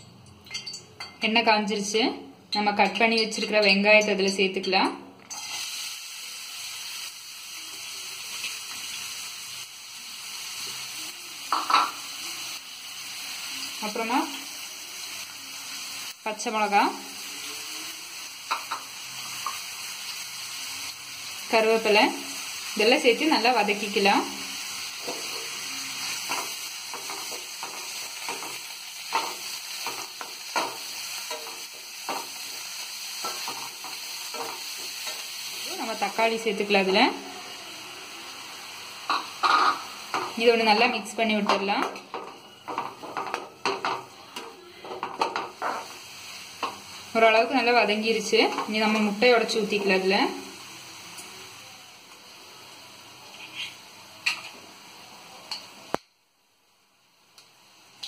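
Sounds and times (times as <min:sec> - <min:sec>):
onions sizzling in oil: 0:02.6 - 0:58.0.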